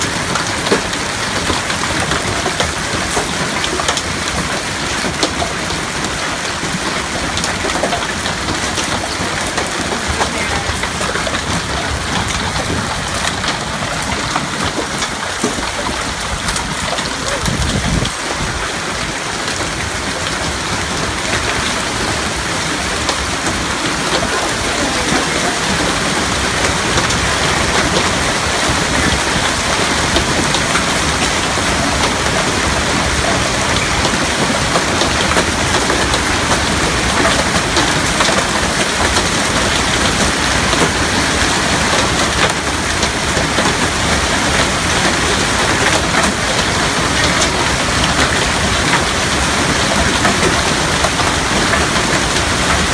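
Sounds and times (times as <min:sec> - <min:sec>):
hailstones clattering on cars: 0:00.0 - 0:52.9.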